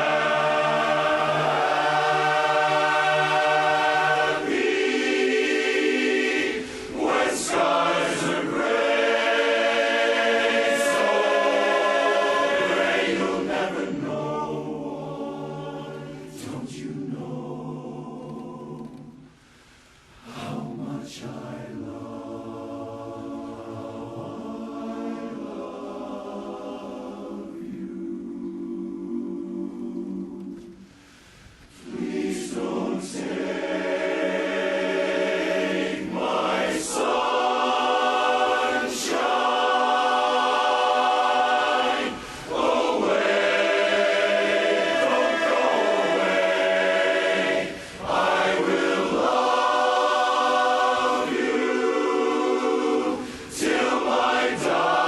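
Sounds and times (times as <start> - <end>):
barbershop chorus singing a cappella: 0.0 - 19.4, 20.2 - 31.0, 31.7 - 55.0.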